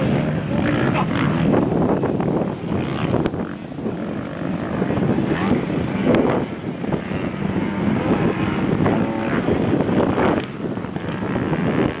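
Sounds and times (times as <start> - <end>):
motorcycle engines revving: 0.0 - 12.0
wind noise on microphone: 0.0 - 12.0.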